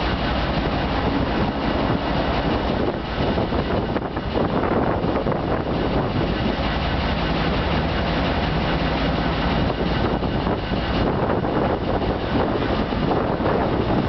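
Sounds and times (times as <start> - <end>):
locomotive engine drone: 0.0 - 14.0.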